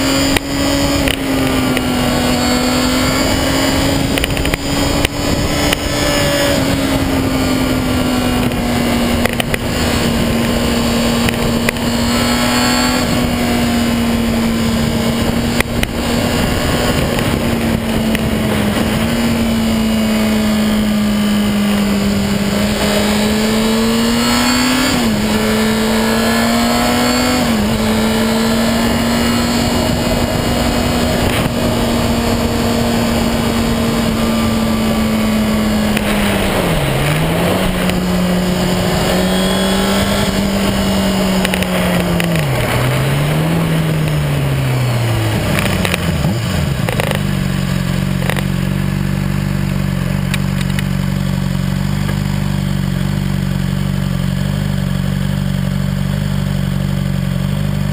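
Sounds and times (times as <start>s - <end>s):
wind noise: 0.0s - 48.6s
motorcycle engine revving: 0.0s - 57.9s.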